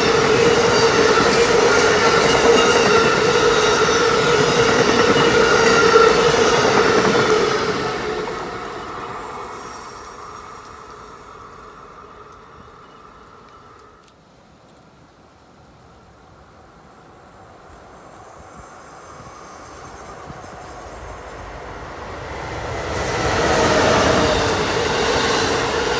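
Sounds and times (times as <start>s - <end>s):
train cars rolling on rails: 0.0s - 25.9s.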